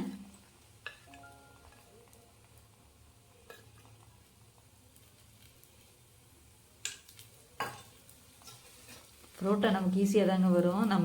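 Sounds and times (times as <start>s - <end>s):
bread sizzling in oil: 0.0s - 11.0s.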